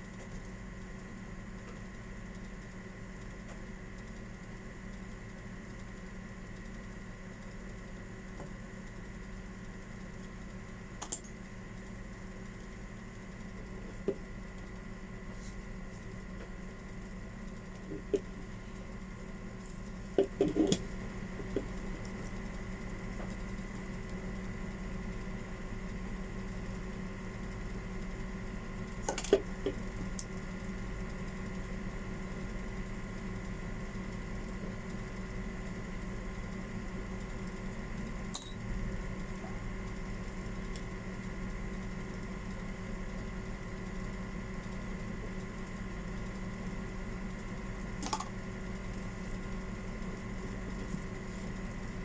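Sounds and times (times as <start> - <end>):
steady background hum: 0.0 - 52.0.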